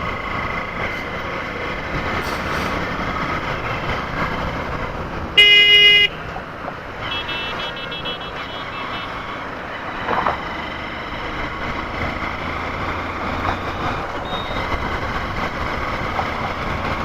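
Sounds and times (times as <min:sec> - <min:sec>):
motorcycle engine and road noise: 0:00.0 - 0:17.0.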